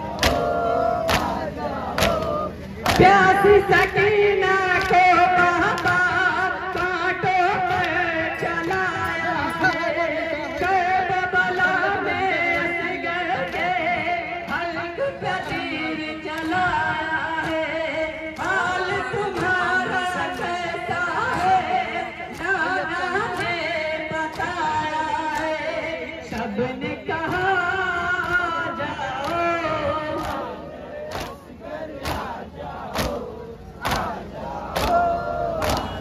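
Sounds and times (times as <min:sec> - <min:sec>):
hand slaps keeping time: 0:00.2 - 0:04.1, 0:04.7 - 0:10.8, 0:11.4 - 0:35.0, 0:35.6 - 0:36.0.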